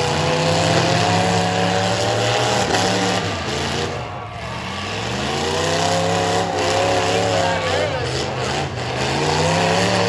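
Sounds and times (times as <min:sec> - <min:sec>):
pickup truck engine revving: 0:00.0 - 0:10.0.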